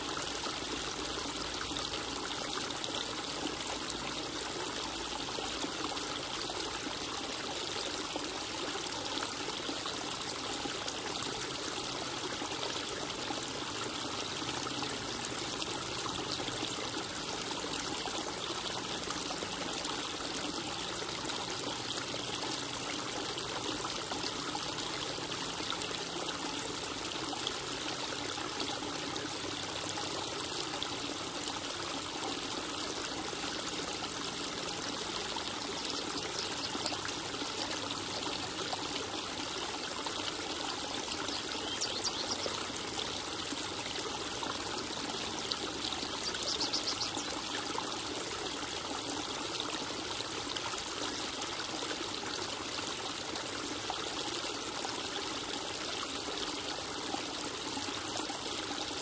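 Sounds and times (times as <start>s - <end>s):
waterfall trickling into pond: 0.0s - 59.0s.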